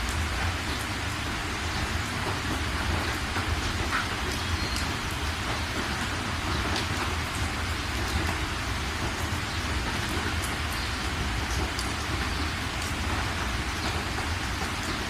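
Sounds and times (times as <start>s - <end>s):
raindrops ticking on surfaces: 0.0s - 15.0s
steady rain falling: 0.0s - 15.0s.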